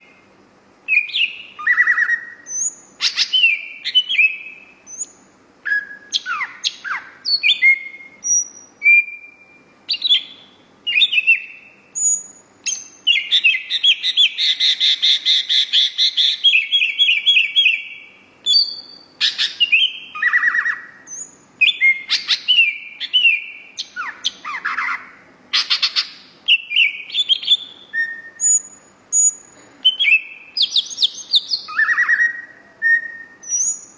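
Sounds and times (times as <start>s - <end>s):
songbird singing whistles: 0.0s - 33.9s
bird rapid trill: 0.9s - 33.9s.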